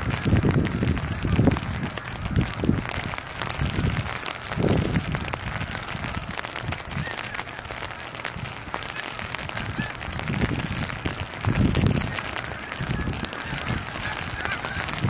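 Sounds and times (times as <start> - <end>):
geese honking: 0.0 - 15.0
rain pattering on umbrella: 0.0 - 15.0
wind gusting on microphone: 0.0 - 15.0.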